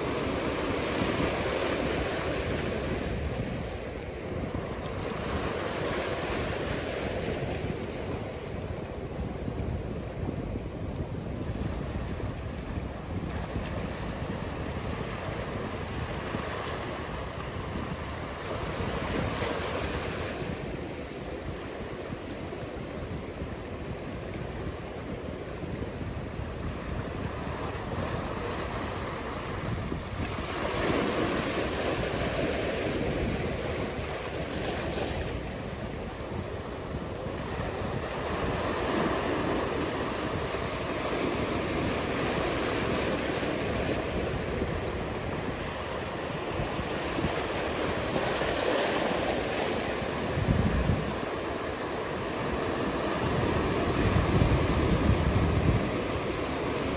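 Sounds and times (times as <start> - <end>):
ocean waves breaking: 0.0 - 56.9.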